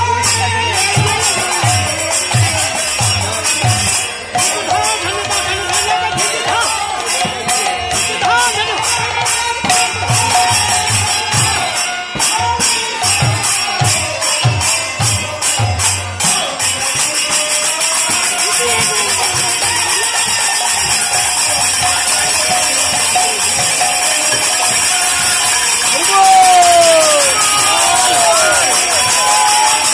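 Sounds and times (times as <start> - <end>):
hand cymbals struck in a beat: 0.0 - 29.9
hand drum: 0.0 - 29.9.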